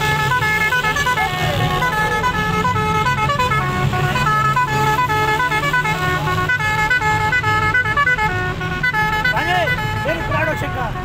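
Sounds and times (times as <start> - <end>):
musical vehicle horn playing: 0.0 - 11.0.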